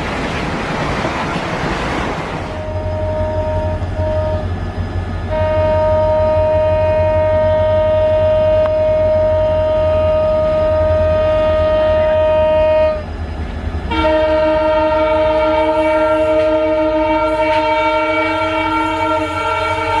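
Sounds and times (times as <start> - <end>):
train rumbling: 0.0 - 20.0
multi-note train horn: 2.5 - 4.6, 5.2 - 13.1, 13.9 - 20.0
train horn blast: 2.5 - 4.6, 5.2 - 13.1, 13.9 - 20.0.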